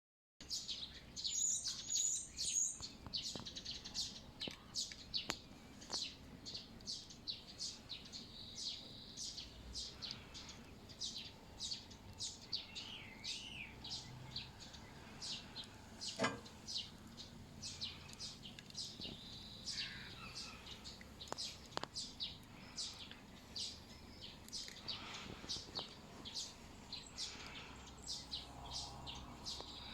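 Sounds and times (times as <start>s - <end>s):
songbirds chirping and singing: 0.4s - 29.9s.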